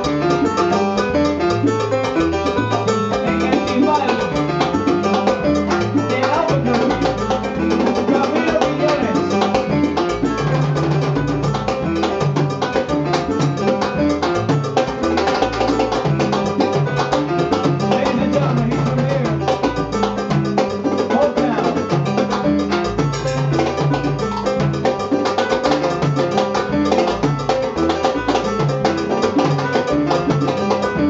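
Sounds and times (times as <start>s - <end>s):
bass line: 0.0s - 31.0s
congas and timbales: 0.0s - 31.0s
salsa band playing: 0.0s - 31.0s.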